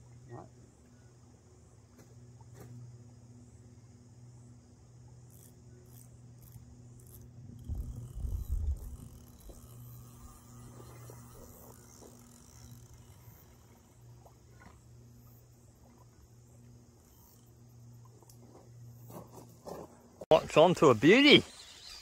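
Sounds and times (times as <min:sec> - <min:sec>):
faint insect chirring: 0:00.0 - 0:22.0
steady low hum: 0:00.0 - 0:22.0.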